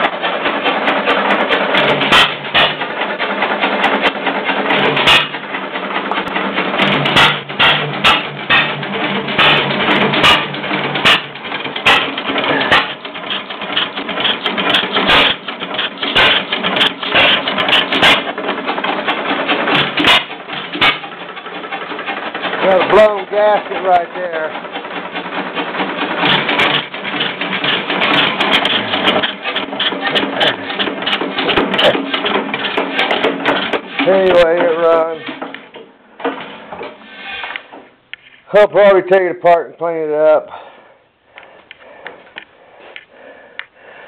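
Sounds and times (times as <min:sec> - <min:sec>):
steady mechanical clatter: 0:00.0 - 0:40.6.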